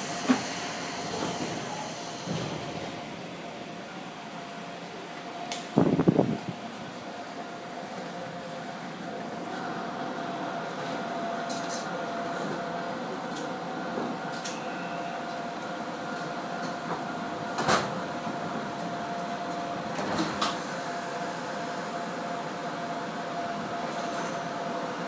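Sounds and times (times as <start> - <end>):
electric train hum: 0.0 - 25.0.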